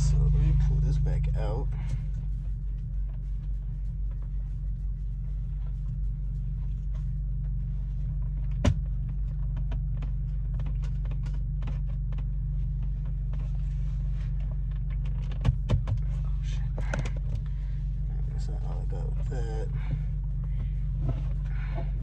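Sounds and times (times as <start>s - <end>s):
low rumble inside car: 0.0s - 22.0s.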